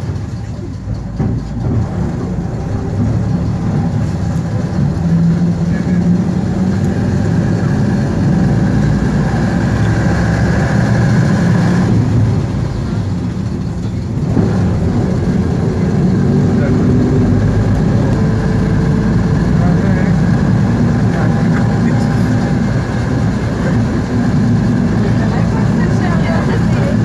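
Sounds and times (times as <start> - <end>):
bus diesel engine: 0.0 - 27.0.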